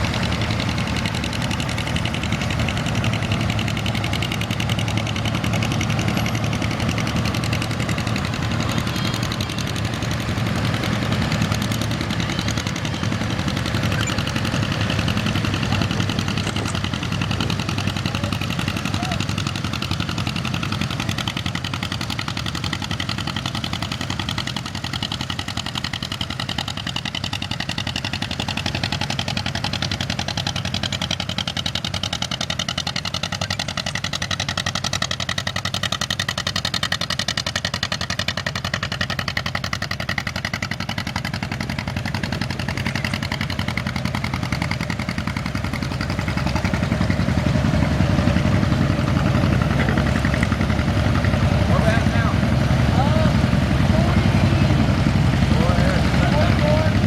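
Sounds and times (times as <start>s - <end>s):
tractor engines driving past: 0.0s - 57.0s.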